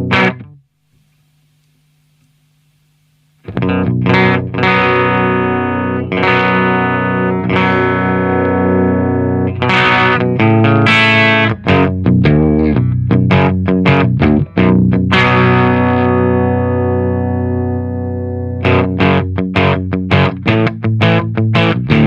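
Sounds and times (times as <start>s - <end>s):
distorted electric guitar chords: 0.0s - 0.6s, 3.4s - 22.0s
faint amp hum: 0.0s - 22.0s.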